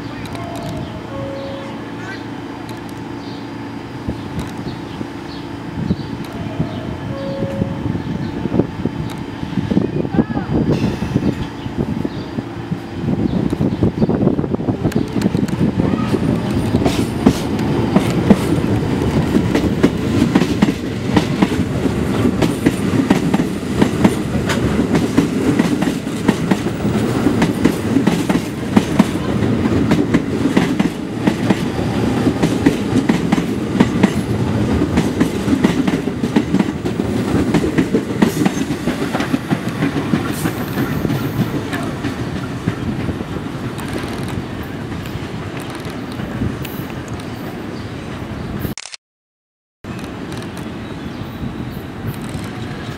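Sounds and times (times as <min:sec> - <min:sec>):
train passing on elevated track: 0:00.0 - 0:48.7, 0:49.9 - 0:52.9.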